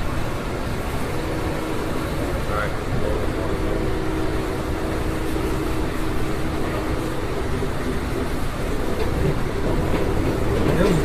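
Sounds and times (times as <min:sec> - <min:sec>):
train car rumble and rail noise: 0:00.0 - 0:11.0.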